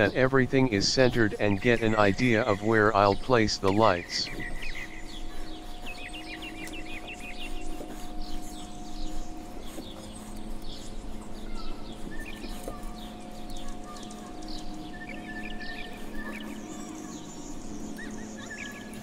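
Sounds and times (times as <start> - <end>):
songbirds chirping and singing: 0.0 - 19.0.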